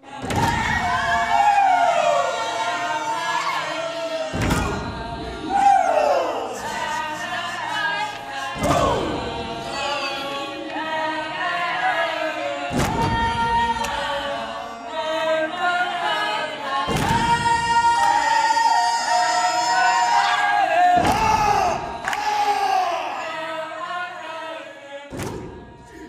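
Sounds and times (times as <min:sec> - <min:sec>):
group singing and chanting: 0:00.0 - 0:26.0
music: 0:00.0 - 0:26.0.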